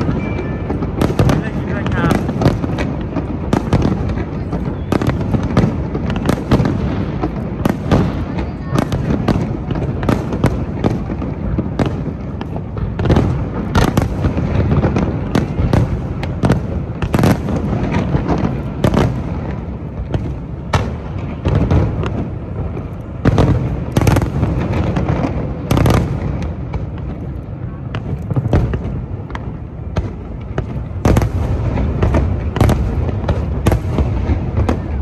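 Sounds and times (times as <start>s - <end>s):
fireworks bursting with sharp bangs: 0.0s - 35.0s.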